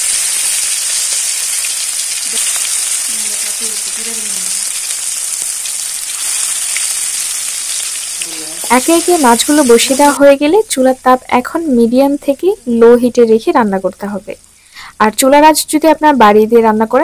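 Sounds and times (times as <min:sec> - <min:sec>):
fish frying in oil: 0:00.0 - 0:14.6.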